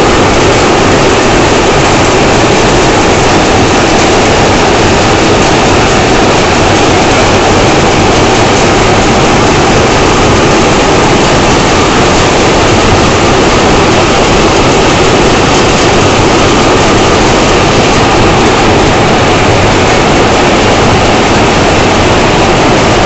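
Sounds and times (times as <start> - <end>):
loom running: 0.0 - 23.0.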